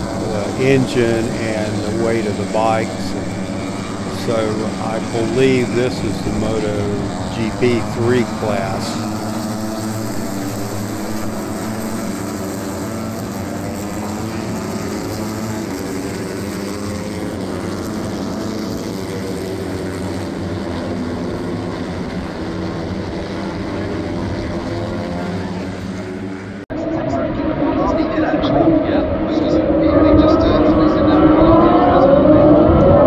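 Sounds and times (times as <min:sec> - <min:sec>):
race motorcycles droning: 0:00.0 - 0:33.0.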